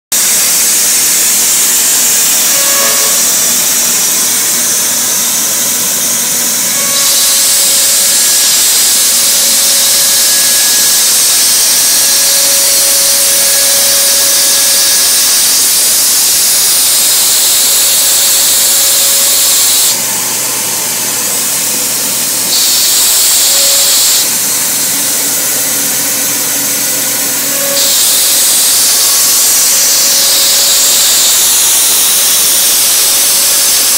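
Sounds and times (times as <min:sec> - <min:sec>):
router spindle cutting wood: 0:00.2 - 0:33.9.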